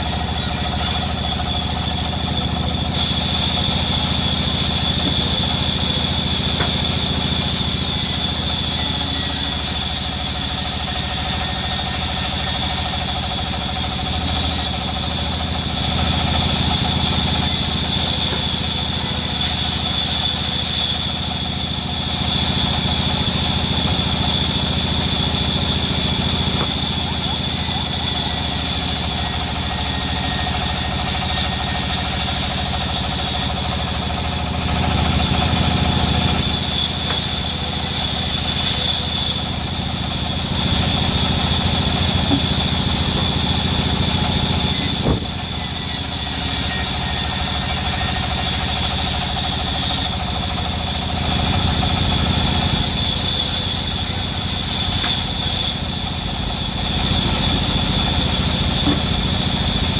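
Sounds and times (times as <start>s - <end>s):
band saw cutting boards: 0.0s - 59.9s.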